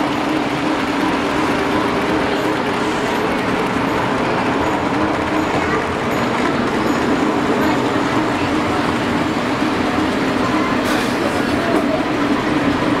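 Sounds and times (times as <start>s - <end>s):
model trains running on track: 0.0s - 13.0s.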